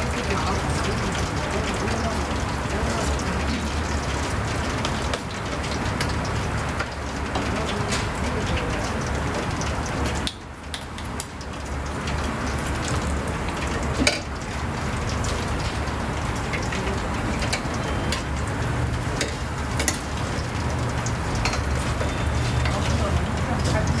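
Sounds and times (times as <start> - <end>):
omelette sizzling in oil: 0.0 - 24.0.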